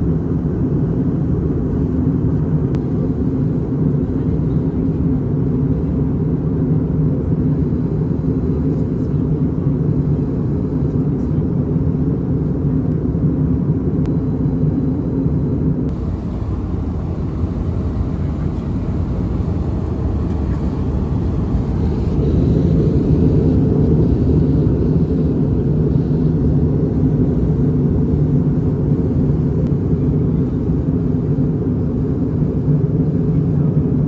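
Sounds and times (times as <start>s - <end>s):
jet engine and airflow rumble: 0.0s - 34.0s.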